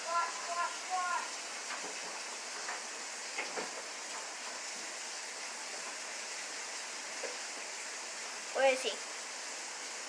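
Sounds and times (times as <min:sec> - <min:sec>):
water running from tap into tub: 0:00.0 - 0:10.0.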